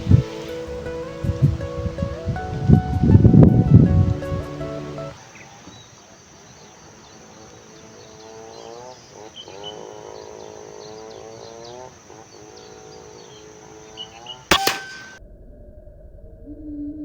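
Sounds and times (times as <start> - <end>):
bird calling: 0.0 - 15.2.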